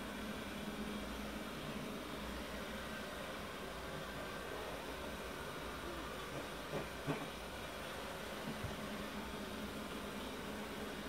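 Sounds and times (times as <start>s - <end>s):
low constant appliance hum: 0.0s - 11.0s
room tone hiss: 0.0s - 11.0s.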